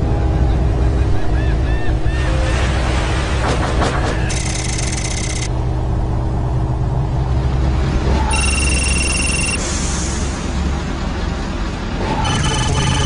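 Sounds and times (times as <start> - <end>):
low machinery rumble: 0.0 - 13.0.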